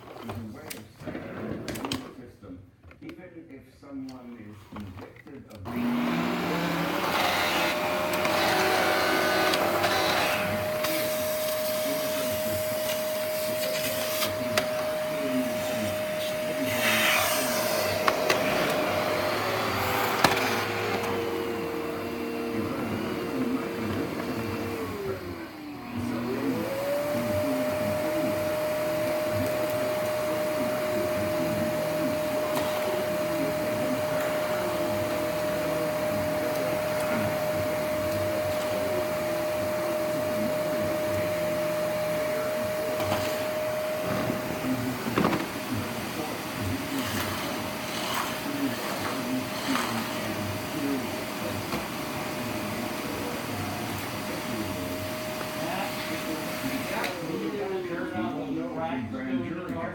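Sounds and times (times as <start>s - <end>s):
vacuum cleaner motor whine: 5.6s - 59.9s.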